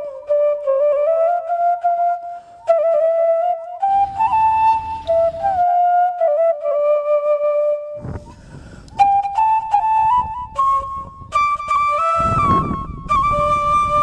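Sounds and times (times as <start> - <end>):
solo flute melody: 0.0 - 14.0.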